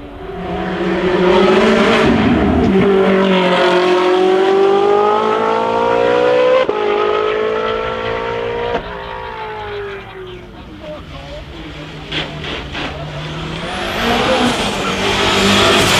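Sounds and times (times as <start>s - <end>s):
racing car accelerating: 0.0s - 15.9s.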